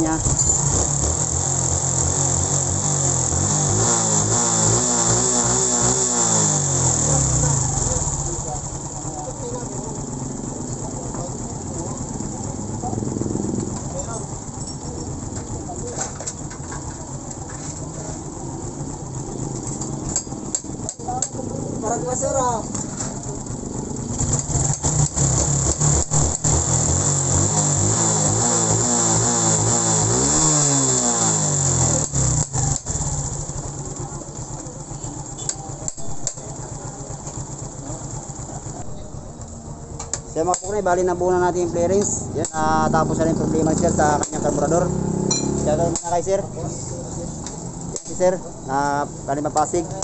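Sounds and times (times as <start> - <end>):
motorcycle engine idling: 0.0 - 50.0.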